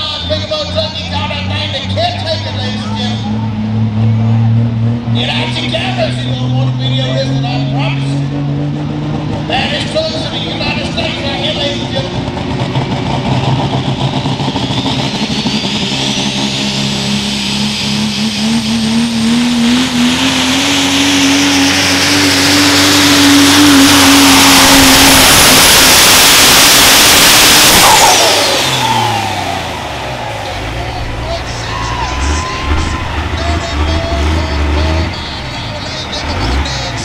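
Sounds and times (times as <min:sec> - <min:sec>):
diesel engine at full throttle: 0:00.0 - 0:37.0.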